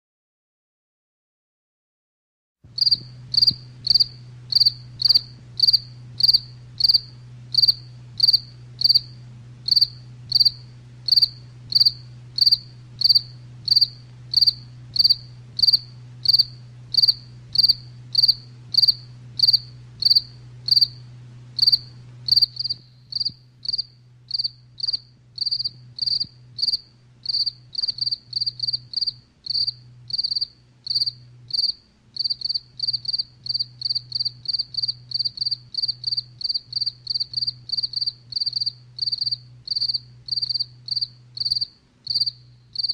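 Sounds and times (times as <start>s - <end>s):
faint low hum: 2.7s - 42.9s
cricket chirping: 2.8s - 21.0s, 21.6s - 42.9s.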